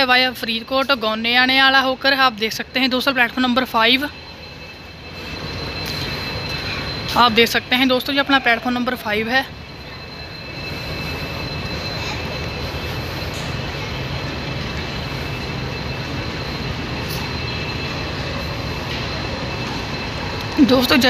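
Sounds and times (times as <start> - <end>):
diesel locomotive engine rumble: 0.0 - 21.0
thin high whine: 0.0 - 21.0.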